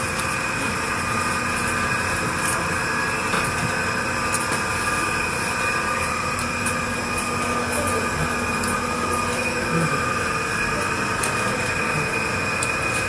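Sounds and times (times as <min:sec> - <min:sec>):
mechanical drone with whining tones: 0:00.0 - 0:13.0.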